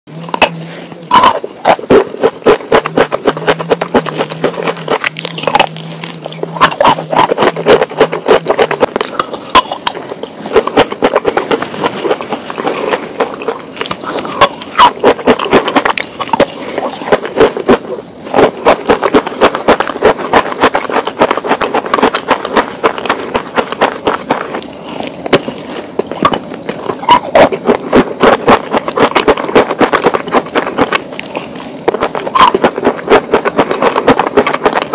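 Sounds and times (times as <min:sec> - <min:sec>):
crunching while chewing: 0:00.1 - 0:34.9.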